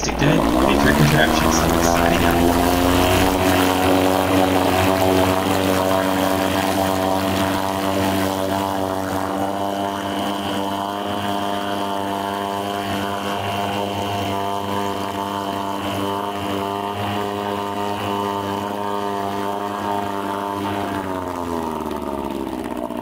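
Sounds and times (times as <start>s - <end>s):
outboard motor running: 0.0s - 23.0s
propeller churning water: 0.0s - 23.0s.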